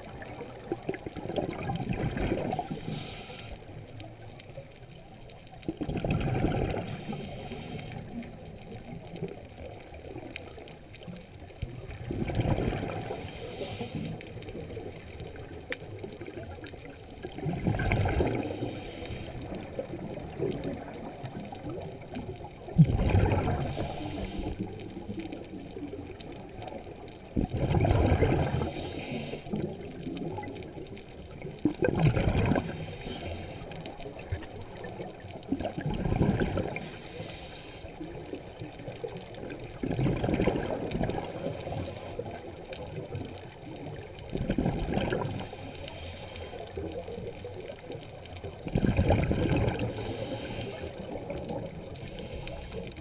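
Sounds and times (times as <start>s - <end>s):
exhaled bubbles gurgling underwater: 0.0s - 53.0s.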